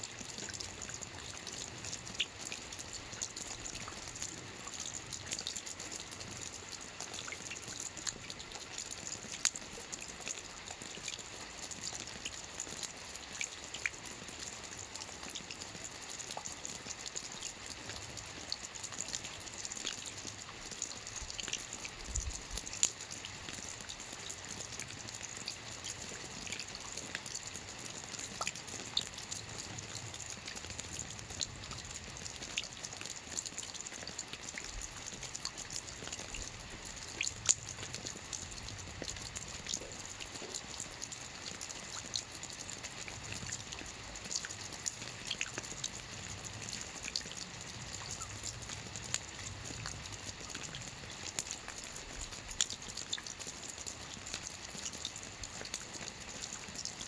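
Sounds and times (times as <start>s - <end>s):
soft rain on a roof: 0.0s - 57.0s.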